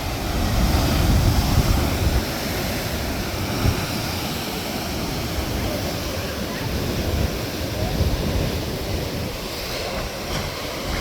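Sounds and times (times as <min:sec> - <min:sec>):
ocean surf washing into rock pool: 0:00.0 - 0:11.0
wind buffeting microphone: 0:00.0 - 0:11.0.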